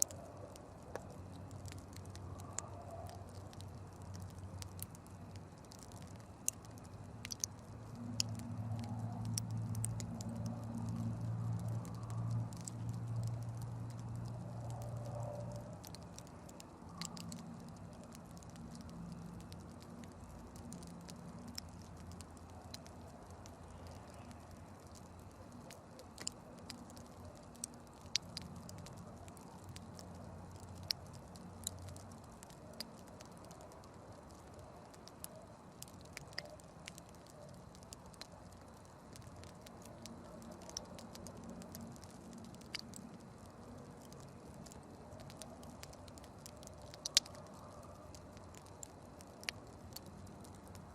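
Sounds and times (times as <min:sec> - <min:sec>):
campfire hissing: 0:00.0 - 0:50.9
fire crackles and pops: 0:00.0 - 0:50.9.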